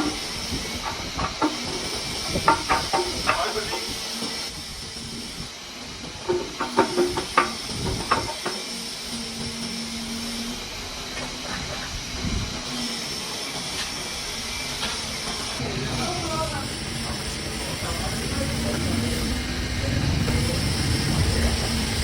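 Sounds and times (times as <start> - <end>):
workshop hiss: 0.0 - 22.0.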